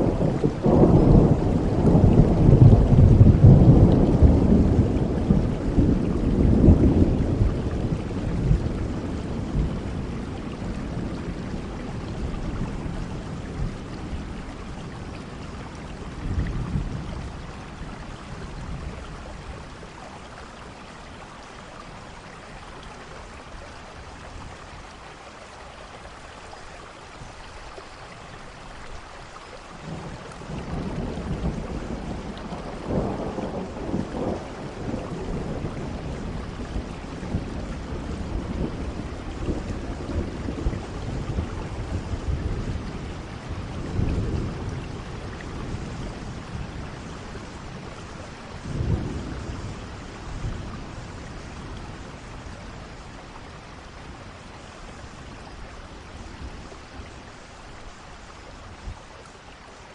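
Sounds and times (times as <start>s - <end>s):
thunder rumbling: 0.0s - 20.4s, 29.8s - 59.0s
steady rain falling: 0.0s - 59.9s.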